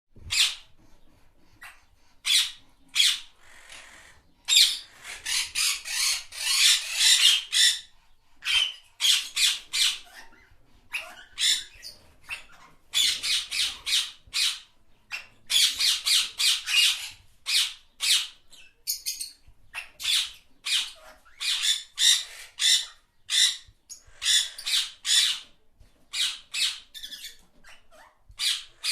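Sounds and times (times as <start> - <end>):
parrots squawking and screeching: 0.3 - 28.9.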